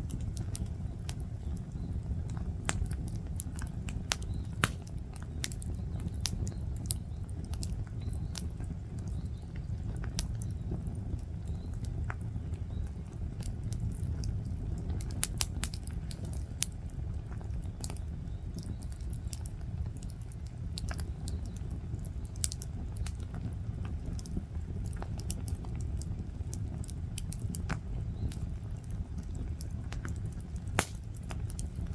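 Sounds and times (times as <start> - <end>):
bonfire crackling and popping: 0.0 - 31.9
low fire rumble: 0.0 - 31.9.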